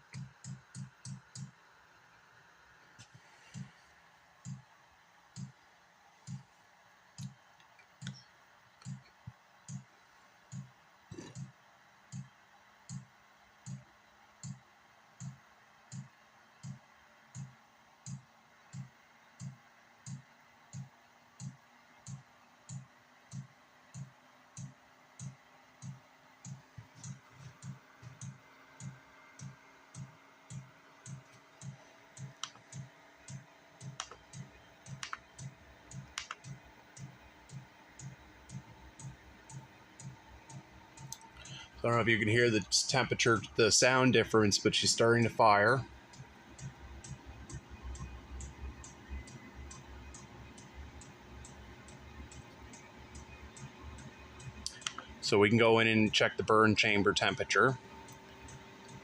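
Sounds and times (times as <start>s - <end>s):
combustion fan humming: 0.0s - 59.0s.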